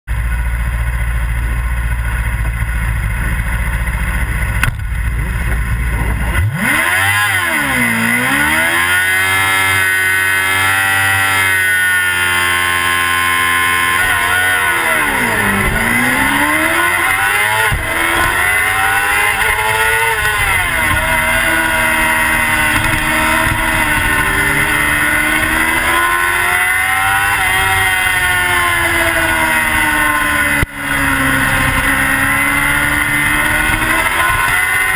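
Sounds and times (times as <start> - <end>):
motorcycle engine revving: 0.1 - 34.9
low wind rumble: 0.2 - 7.1, 12.0 - 34.4.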